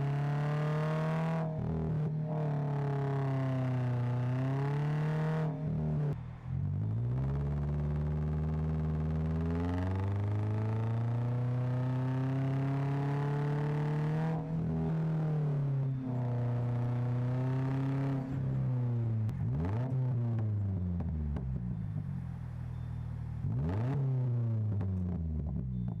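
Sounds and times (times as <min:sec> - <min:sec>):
engine revving: 0:00.0 - 0:21.6, 0:23.4 - 0:26.0
car engine accelerating: 0:00.0 - 0:26.0.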